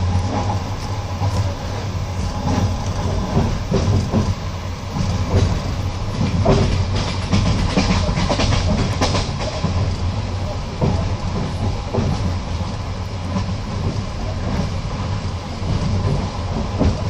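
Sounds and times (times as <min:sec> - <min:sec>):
train carriage rumble: 0:00.0 - 0:17.0
wheels clacking over rail joints: 0:00.0 - 0:17.0.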